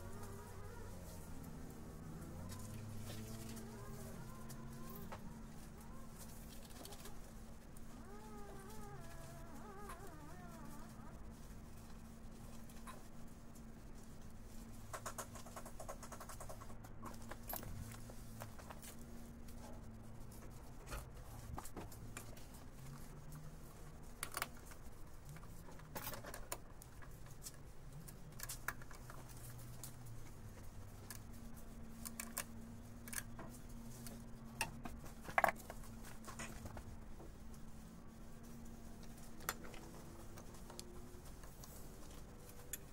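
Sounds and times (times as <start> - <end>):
faint low hum: 0.0 - 42.9.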